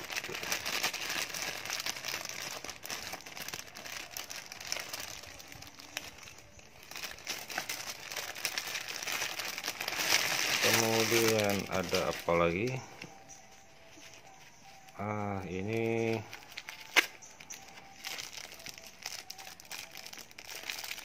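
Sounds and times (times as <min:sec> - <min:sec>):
plastic packets crinkling: 0:00.0 - 0:21.0.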